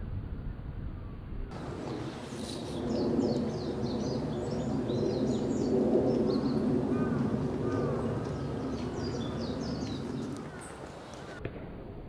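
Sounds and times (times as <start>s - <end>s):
low background hum: 0.0s - 11.4s
small birds chirping: 1.6s - 11.4s.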